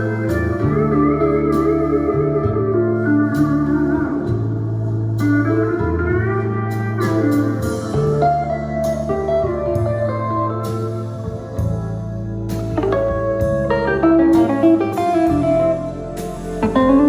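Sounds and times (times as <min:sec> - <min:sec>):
bass notes: 0:00.0 - 0:17.0
guitar with gliding notes: 0:00.0 - 0:17.0.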